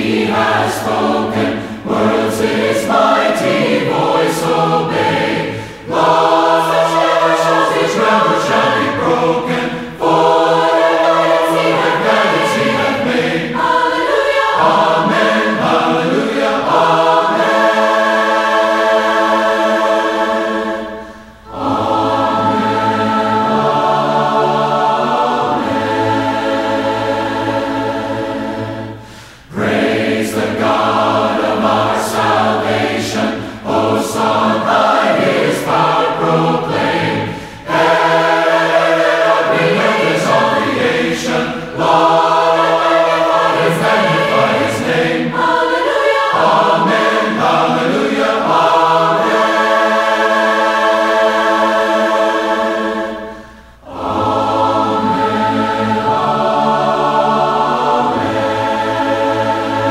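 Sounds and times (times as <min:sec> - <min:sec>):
choir singing a cappella hymn: 0:00.0 - 0:59.9.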